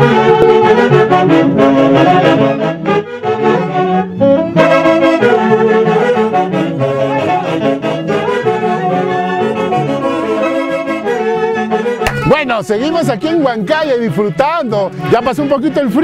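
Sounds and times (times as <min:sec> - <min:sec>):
saxophones and brass dance music: 0:00.0 - 0:16.0.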